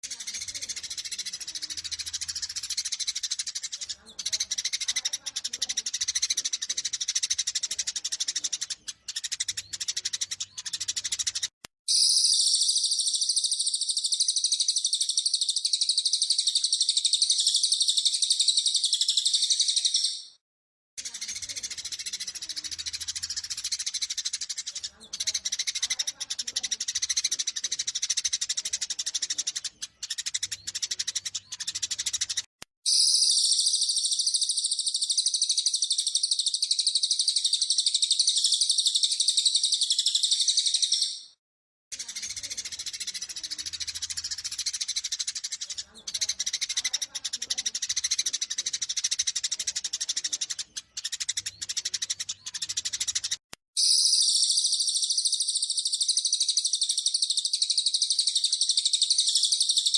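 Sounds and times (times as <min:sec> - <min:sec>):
sparrows chirping: 0:00.0 - 0:20.4, 0:21.0 - 0:59.9.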